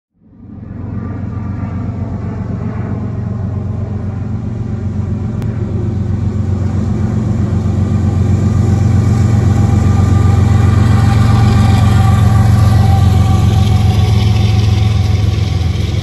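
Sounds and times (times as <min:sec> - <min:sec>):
diesel locomotive engine drone: 0:00.1 - 0:16.0.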